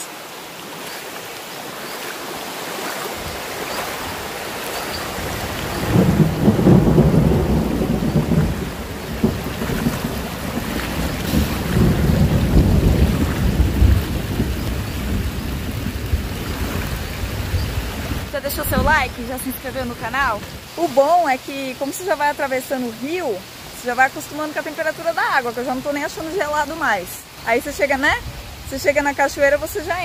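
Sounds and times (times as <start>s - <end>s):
river water rushing and splashing: 0.0s - 30.0s.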